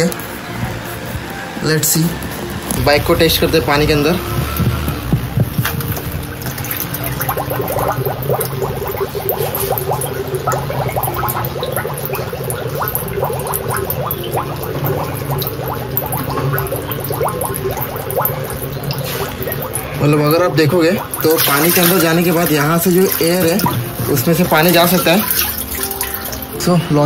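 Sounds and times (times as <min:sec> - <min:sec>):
water sloshing: 0:00.0 - 0:26.8
air gurgling out underwater: 0:02.2 - 0:26.6.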